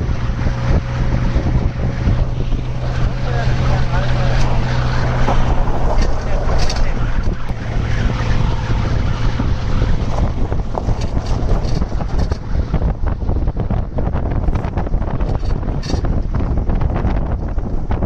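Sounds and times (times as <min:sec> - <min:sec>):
van engine and tyres rumbling on ice: 0:00.0 - 0:18.0
wind buffeting microphone: 0:00.0 - 0:18.0.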